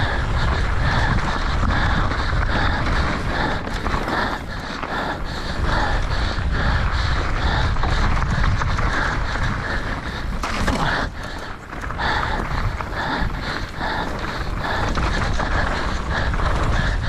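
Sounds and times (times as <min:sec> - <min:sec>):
bike clattering over rough ground: 0:00.0 - 0:17.0
person panting hard: 0:00.0 - 0:17.0
wind rumble on microphone: 0:00.0 - 0:17.0.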